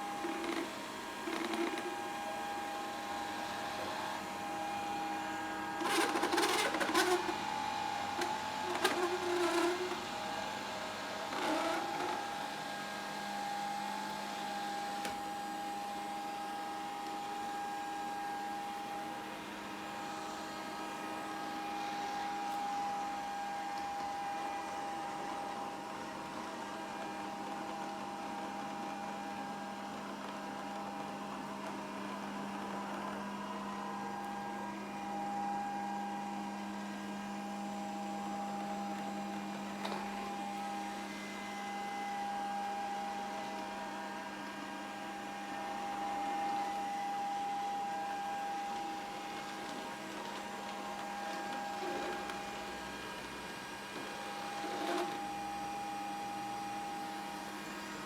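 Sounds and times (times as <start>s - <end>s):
robot vacuum cleaner running: 0.0s - 58.0s.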